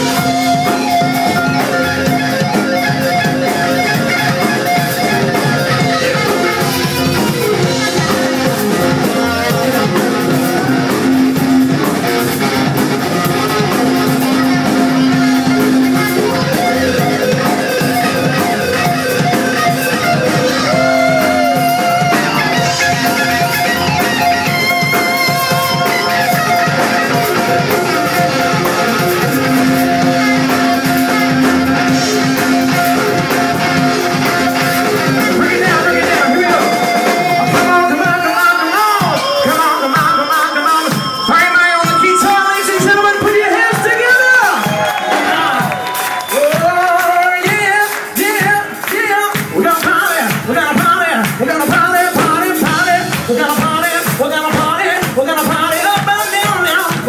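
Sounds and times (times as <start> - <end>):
electric guitar: 0.0 - 57.0
live band music: 0.0 - 57.0.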